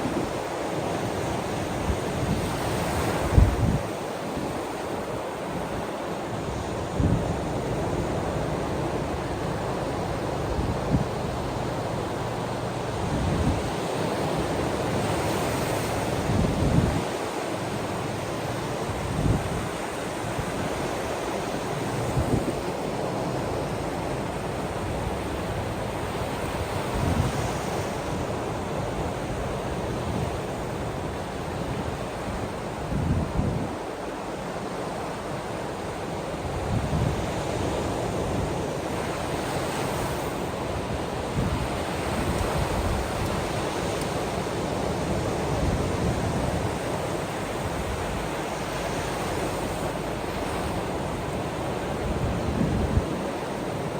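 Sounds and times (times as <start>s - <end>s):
wind buffeting the microphone: 0.0s - 35.4s, 36.2s - 53.9s
ocean waves washing on shore: 0.0s - 53.9s.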